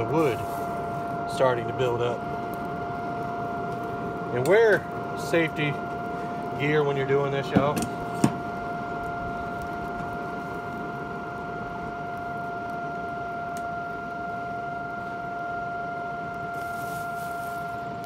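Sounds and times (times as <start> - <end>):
blower fan whine and air rush: 0.0 - 18.0.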